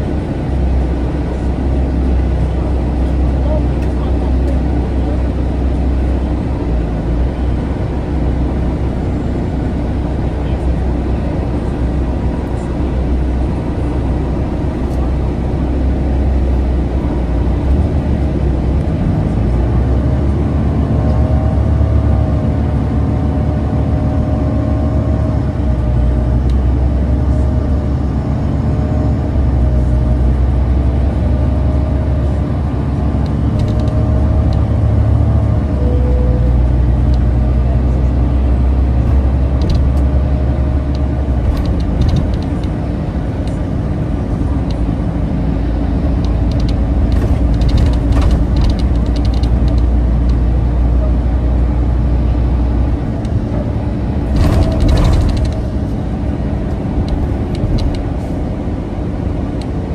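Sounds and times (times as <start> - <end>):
bus engine drone: 0.0 - 59.9
road noise: 0.0 - 59.9.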